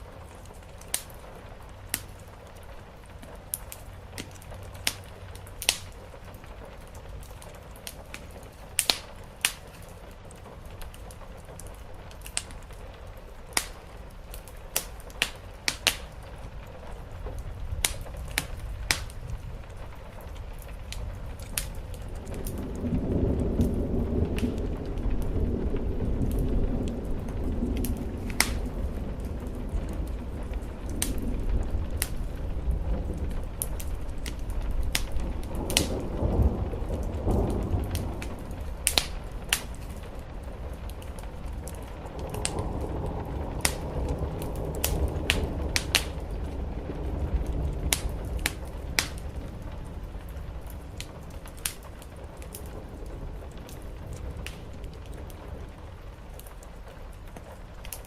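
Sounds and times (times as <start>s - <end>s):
rain on a roof: 0.0s - 58.0s
wood fire crackling: 0.0s - 58.0s
rolling thunder: 10.3s - 58.0s.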